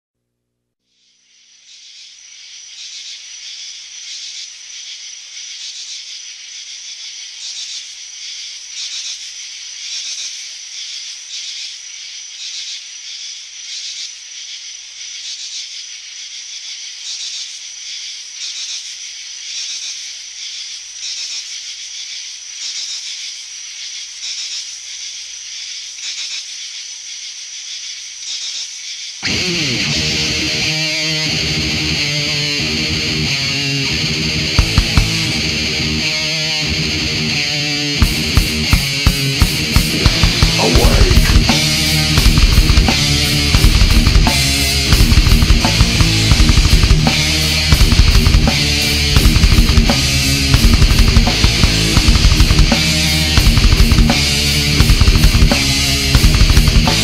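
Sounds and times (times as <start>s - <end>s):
high-pitched hissing: 0.9s - 57.0s.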